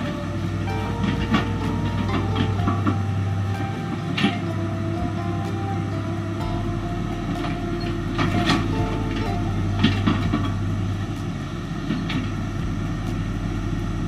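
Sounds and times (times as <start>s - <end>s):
distant excavator diesel engine: 0.0s - 14.0s.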